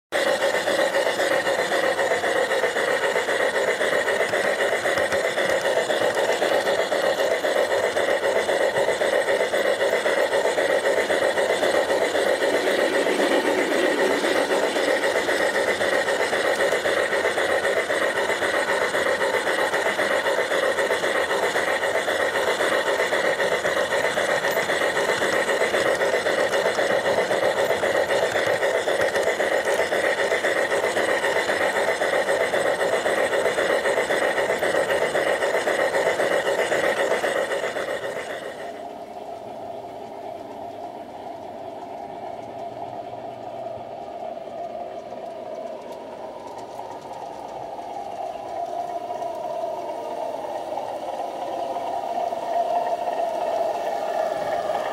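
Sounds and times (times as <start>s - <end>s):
model train motor whirring: 0.1s - 54.9s
wheels rolling on track: 0.1s - 54.9s.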